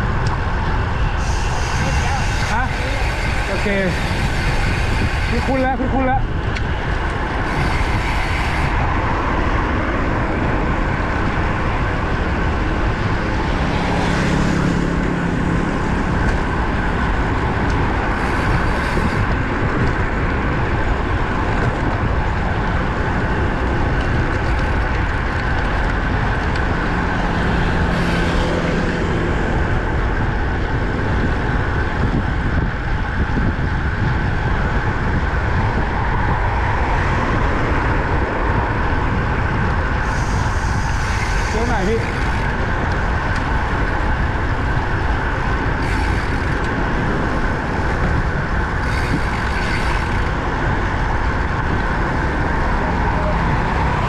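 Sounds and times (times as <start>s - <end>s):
road traffic noise: 0.0s - 54.0s
vehicles passing: 0.0s - 54.0s
wind over microphone: 0.0s - 54.0s.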